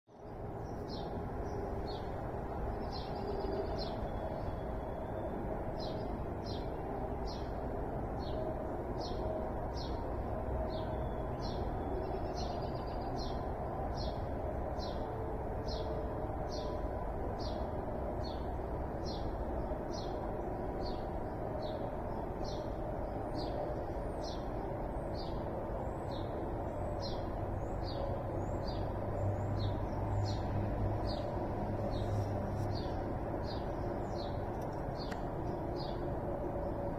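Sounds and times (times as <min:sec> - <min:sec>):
low background rumble: 0:00.1 - 0:36.9
songbird chirping: 0:00.2 - 0:07.6, 0:08.2 - 0:36.9.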